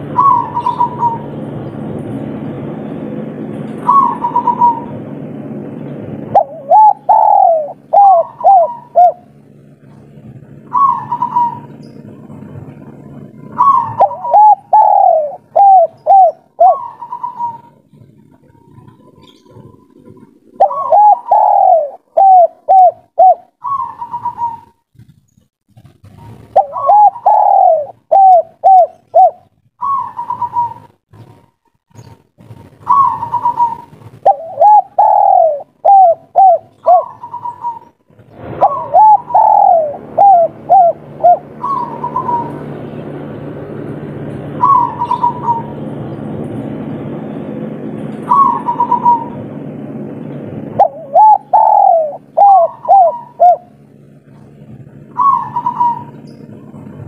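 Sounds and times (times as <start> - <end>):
dove cooing: 0.0 - 1.3, 3.6 - 5.0, 6.3 - 25.2, 26.0 - 31.4, 32.0 - 43.3, 44.2 - 46.2, 48.0 - 49.6, 50.8 - 57.0
low rumble: 0.0 - 57.0.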